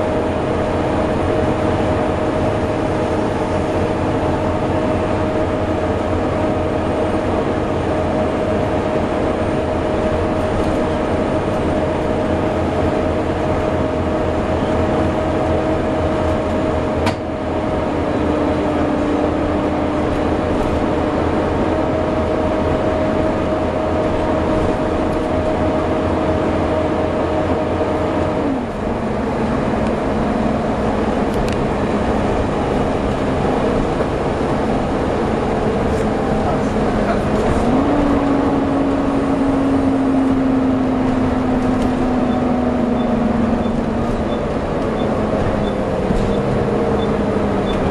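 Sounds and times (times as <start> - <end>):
bus engine with whine: 0.0 - 47.9.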